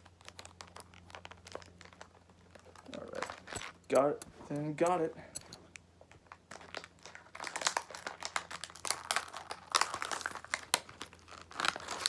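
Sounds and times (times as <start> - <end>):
plastic packaging crinkling: 0.0 - 5.1, 6.0 - 12.0.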